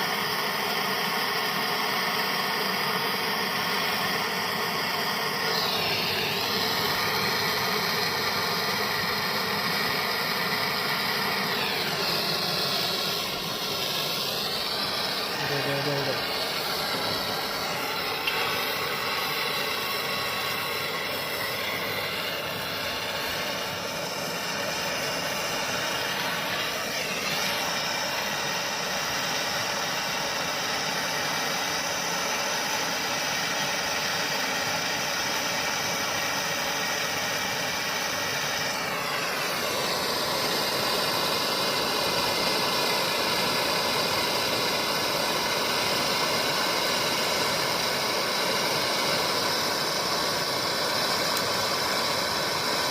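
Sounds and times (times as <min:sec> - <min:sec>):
motor-driven machine whining: 0:00.0 - 0:52.9.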